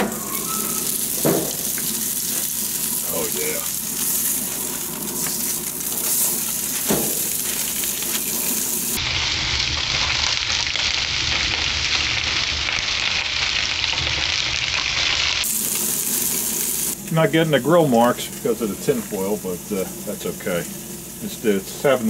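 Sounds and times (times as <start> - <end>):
steak sizzling on a grill: 0.0 - 22.0.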